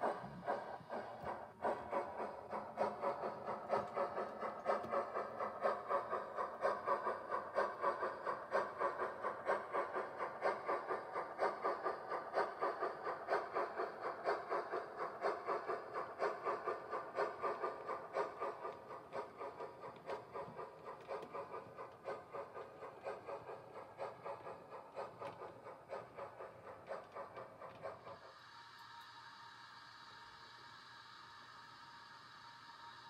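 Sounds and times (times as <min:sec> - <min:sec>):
model steam locomotive chuffing: 0:00.0 - 0:33.0.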